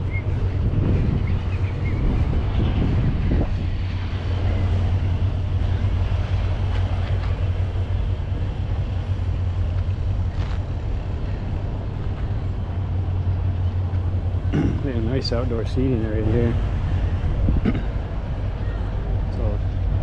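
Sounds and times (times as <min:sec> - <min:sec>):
low engine hum: 0:00.0 - 0:20.0
rushing wind-like noise: 0:00.0 - 0:20.0.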